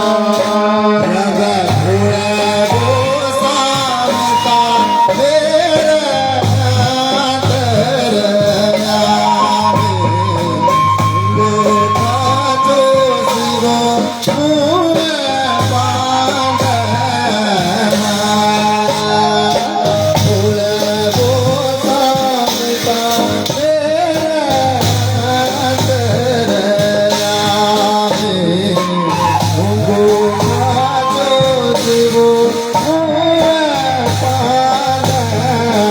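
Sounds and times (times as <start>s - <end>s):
folk band playing: 0.0s - 35.9s
person singing wavering melody: 0.0s - 35.9s.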